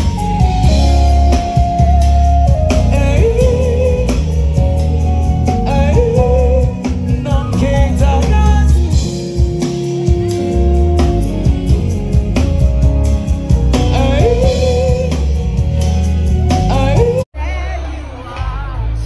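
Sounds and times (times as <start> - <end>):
person singing lead vocals: 0.0 - 12.6, 13.4 - 19.0
soul band playing: 0.0 - 19.0.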